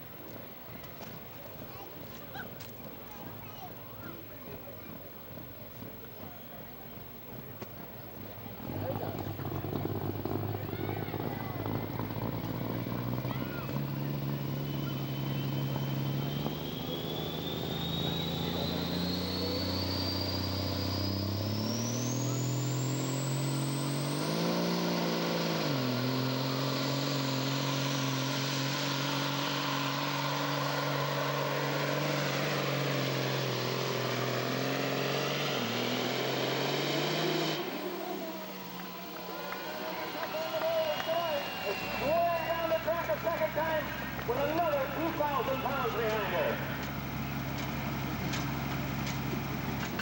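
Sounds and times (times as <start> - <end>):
diesel truck engine under load: 0.0 - 50.0
turbocharger whine: 0.0 - 50.0.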